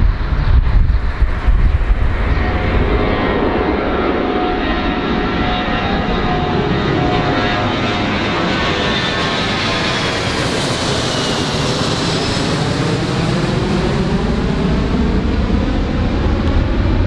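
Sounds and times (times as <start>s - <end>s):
airplane engines running: 0.0s - 17.0s
gusty low rumble: 0.0s - 17.0s.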